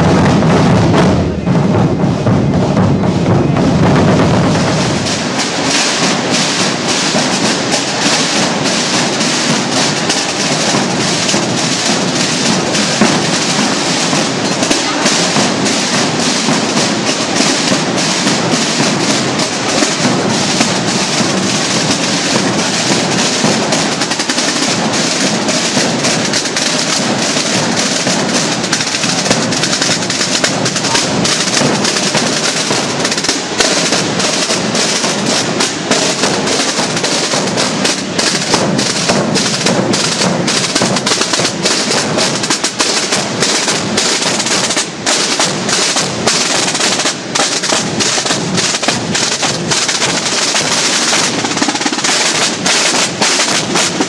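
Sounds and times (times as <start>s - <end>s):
marching drums beating: 0.0s - 54.0s.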